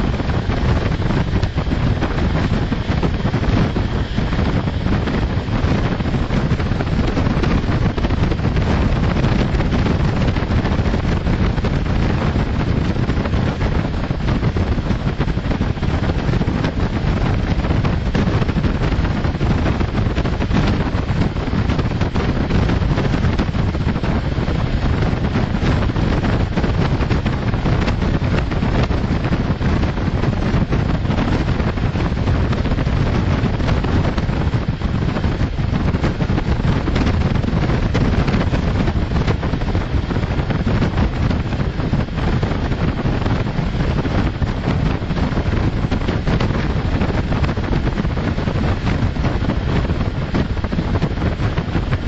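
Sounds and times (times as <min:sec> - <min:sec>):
wheels rumbling on rails: 0:00.0 - 0:52.0
wind buffeting microphone: 0:00.0 - 0:52.0.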